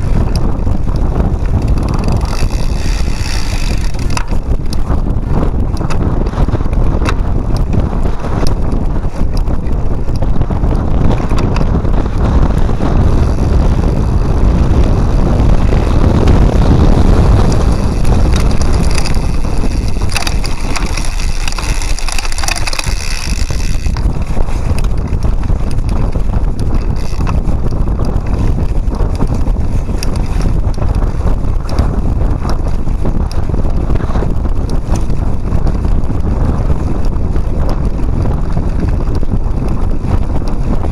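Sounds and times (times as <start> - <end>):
bike rattling and knocking: 0.0 - 40.9
wind buffeting microphone: 0.0 - 40.9.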